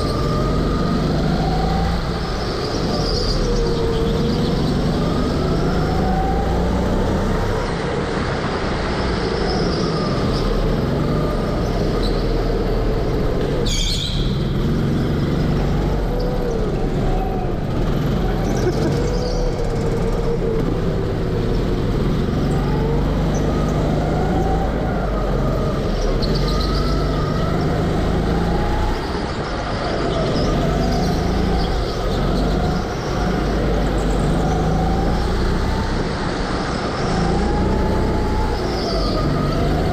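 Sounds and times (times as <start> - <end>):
go-karts racing: 0.0 - 39.9.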